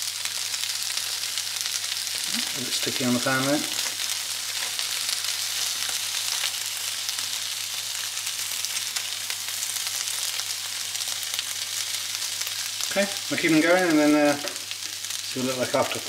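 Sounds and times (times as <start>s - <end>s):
bacon sizzling in a frying pan: 0.0s - 16.0s.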